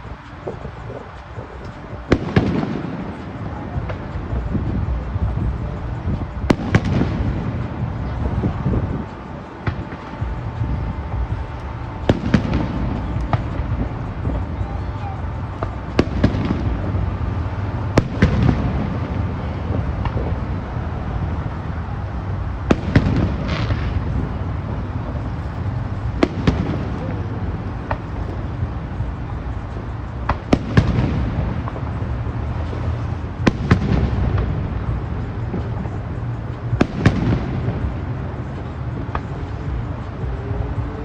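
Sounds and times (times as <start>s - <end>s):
fireworks bangs: 0.0s - 41.0s
low rumble of booms: 3.6s - 41.0s.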